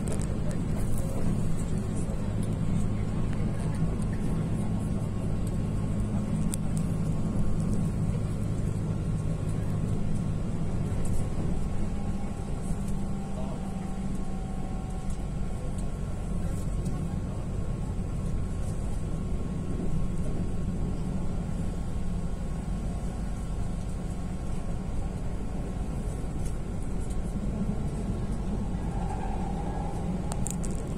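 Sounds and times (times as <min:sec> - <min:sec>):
car engine and road noise: 0:00.0 - 0:30.9.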